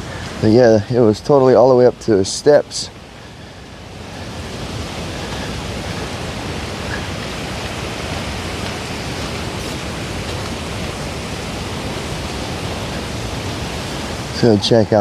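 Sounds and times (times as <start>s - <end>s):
strong wind on microphone: 1.9s - 15.0s.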